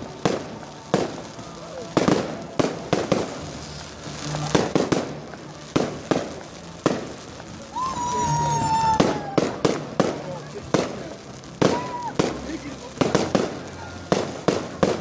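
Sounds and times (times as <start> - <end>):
firework bangs: 0.0 - 15.0
whistling firework: 0.0 - 15.0.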